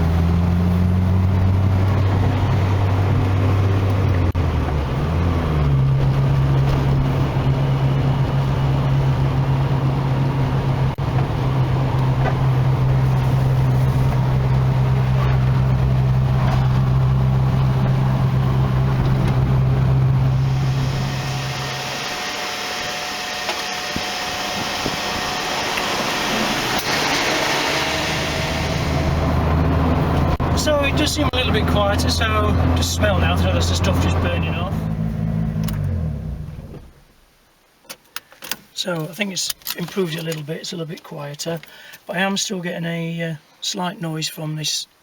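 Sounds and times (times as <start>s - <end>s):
car engine: 0.0s - 37.7s
road noise: 0.0s - 42.2s.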